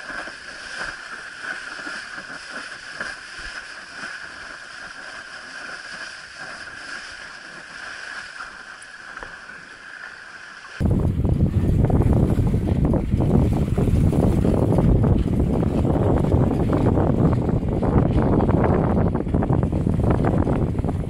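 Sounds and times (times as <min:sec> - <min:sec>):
water rushing against board: 0:00.0 - 0:21.0.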